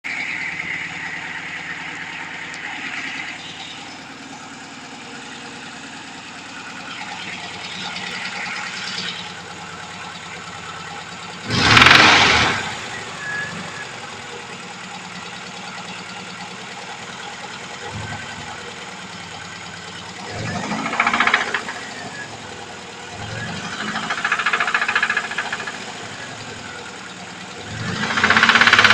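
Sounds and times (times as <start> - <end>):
knocking engine idling: 0.3 - 28.9.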